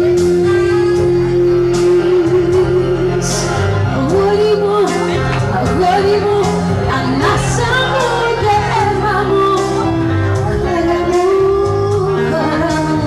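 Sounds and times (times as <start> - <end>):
backing music with bass and percussion: 0.0 - 13.0
woman singing into microphone: 0.0 - 13.0.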